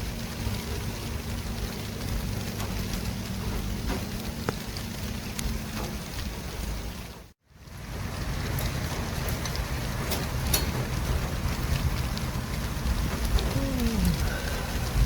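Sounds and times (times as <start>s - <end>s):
road noise with low rumble: 0.0s - 15.0s.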